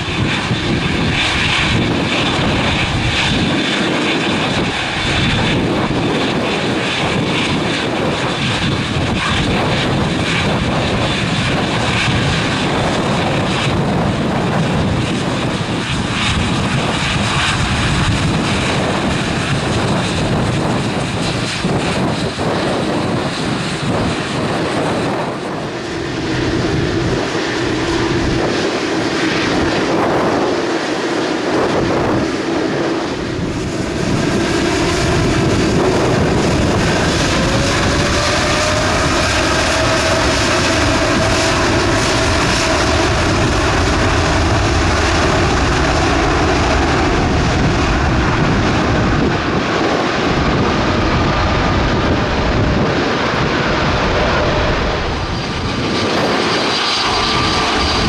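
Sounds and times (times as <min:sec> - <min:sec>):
jet plane passing: 0:00.0 - 0:58.0.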